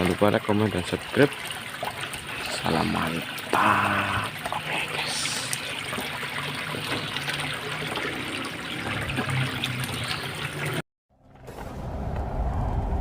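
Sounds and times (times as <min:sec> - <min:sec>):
water trickling in a ditch: 0:00.0 - 0:10.8.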